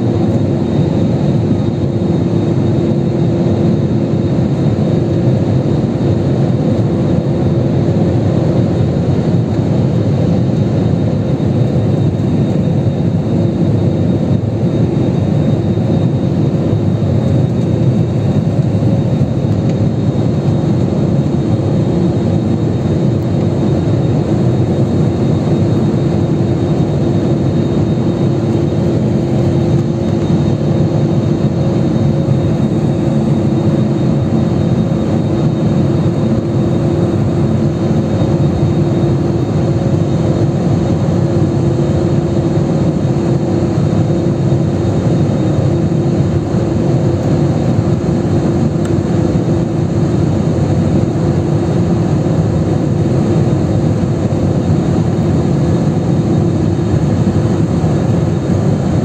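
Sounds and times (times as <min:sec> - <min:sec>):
constant low hum: 0:00.0 - 0:59.0
jet engines and rushing airflow: 0:00.0 - 0:59.0.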